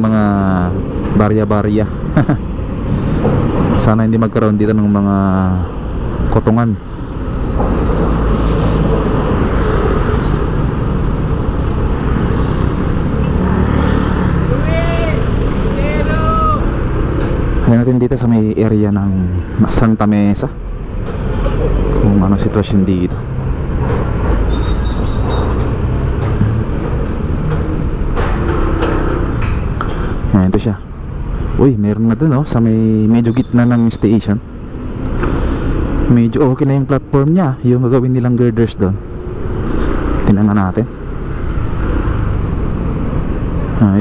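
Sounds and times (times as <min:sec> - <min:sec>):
tyres on road: 0:00.0 - 0:44.0
vehicle engines running: 0:00.0 - 0:44.0.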